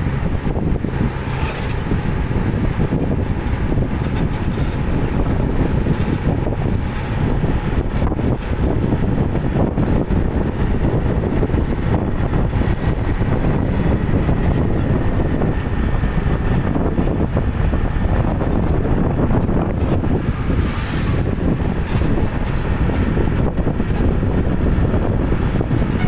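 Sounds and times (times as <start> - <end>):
vehicle engine and tyre rumble: 0.0 - 26.0
wind buffeting microphone: 0.0 - 26.0.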